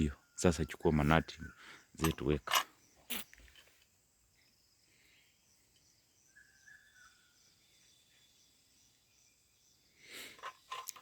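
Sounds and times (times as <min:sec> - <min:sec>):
high insect chirp: 0:00.0 - 0:11.0.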